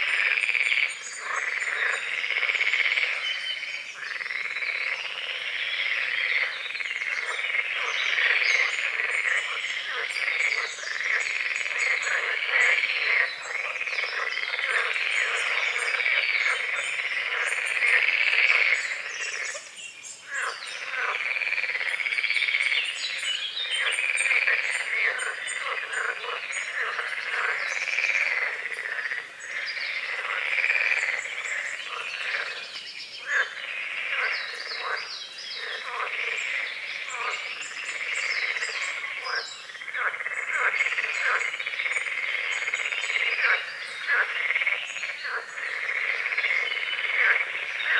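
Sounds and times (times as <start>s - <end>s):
chorus of frogs croaking: 0.0s - 47.9s.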